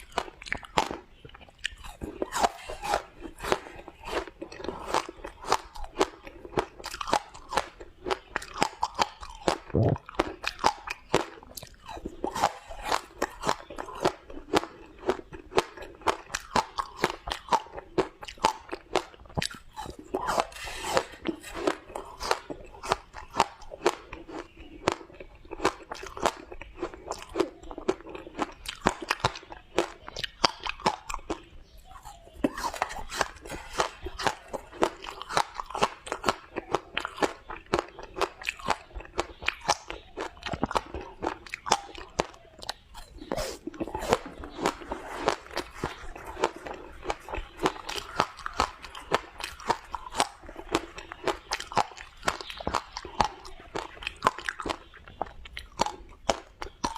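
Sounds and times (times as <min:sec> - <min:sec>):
ice being chewed: 0:00.0 - 0:56.9.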